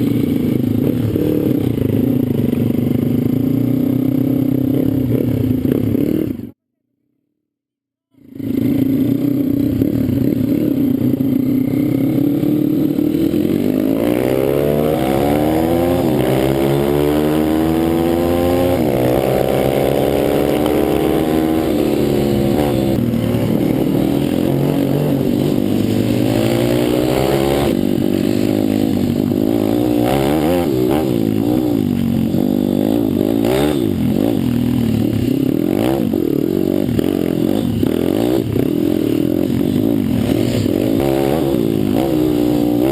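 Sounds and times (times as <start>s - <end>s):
pit bike engine revving: 8.2s - 42.9s.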